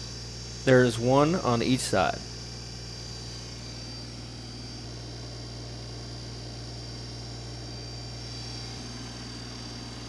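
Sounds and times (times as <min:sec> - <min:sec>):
low electrical hum with whine: 0:00.0 - 0:10.0.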